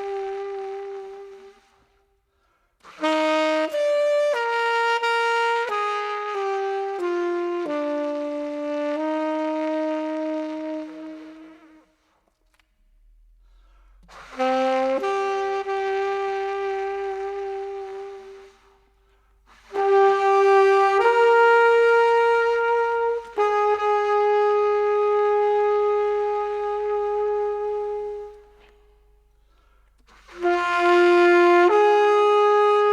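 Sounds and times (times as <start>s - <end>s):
solo saxophone melody: 0.0s - 2.2s, 2.8s - 12.2s, 14.1s - 32.9s.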